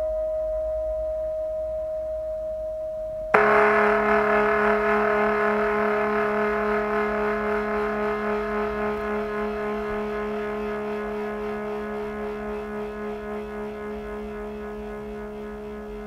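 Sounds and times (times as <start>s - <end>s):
lower singing bowl ringing: 0.0s - 16.0s
singing bowl ringing: 0.0s - 16.0s.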